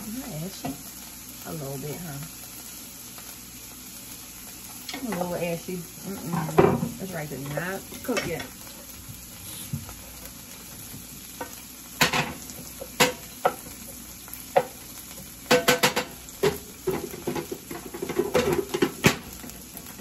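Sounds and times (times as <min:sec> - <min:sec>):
vegetables sizzling in skillet: 0:00.0 - 0:20.0.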